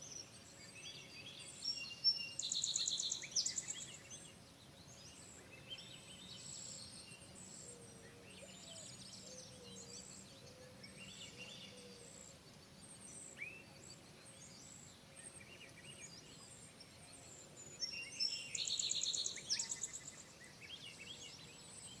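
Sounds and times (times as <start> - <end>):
songbirds chirping and trilling: 0.0 - 22.0.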